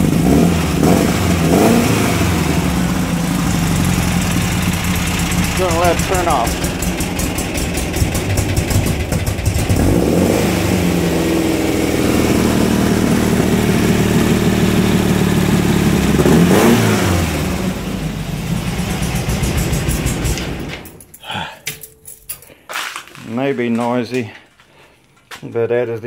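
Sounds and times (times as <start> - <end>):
air-cooled engine running and revving: 0.0 - 21.0.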